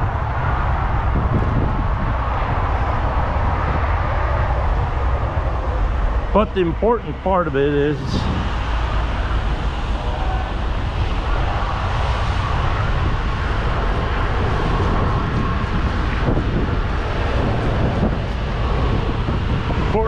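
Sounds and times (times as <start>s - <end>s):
machinery rumbling and hissing: 0.0s - 20.0s.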